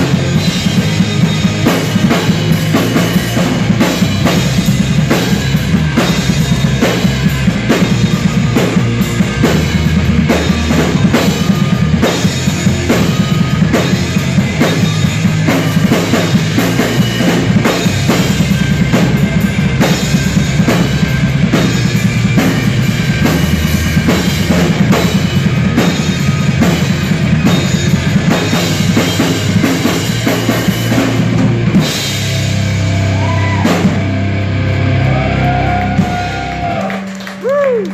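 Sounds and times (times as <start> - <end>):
bass guitar: 0.0 - 37.9
drum kit beating: 0.0 - 37.9
electric guitars: 0.0 - 37.9.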